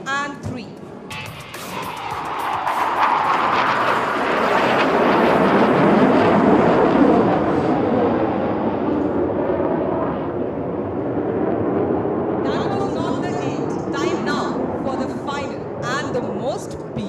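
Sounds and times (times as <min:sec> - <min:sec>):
jet passing overhead: 0:00.8 - 0:17.0.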